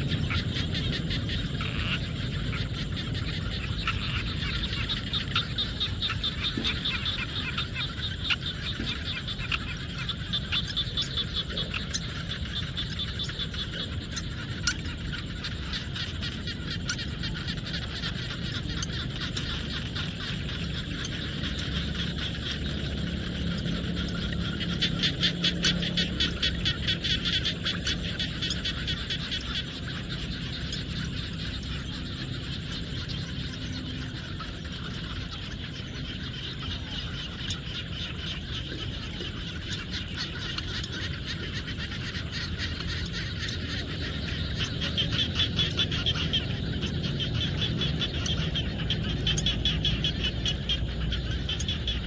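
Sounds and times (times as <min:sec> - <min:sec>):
frogs calling: 0:00.0 - 0:52.0
high insect whine: 0:00.0 - 0:52.0.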